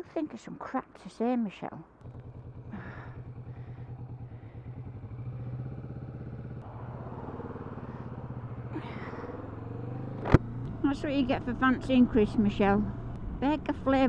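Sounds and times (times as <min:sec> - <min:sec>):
motorcycle engine running: 0:02.0 - 0:14.0.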